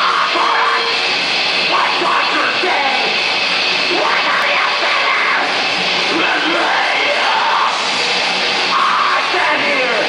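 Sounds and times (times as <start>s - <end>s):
rock band playing loudly: 0.0s - 10.0s.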